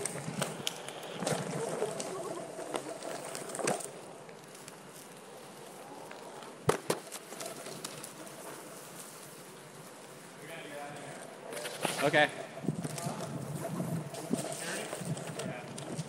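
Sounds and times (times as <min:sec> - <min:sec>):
boards rolling over pavement: 0:00.0 - 0:16.0.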